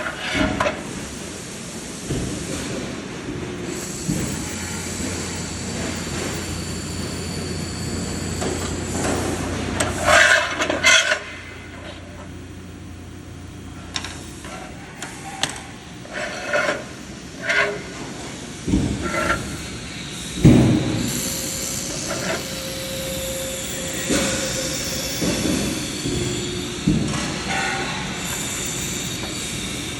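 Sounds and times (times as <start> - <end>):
welding machine humming: 3.5 - 16.2, 17.9 - 29.9.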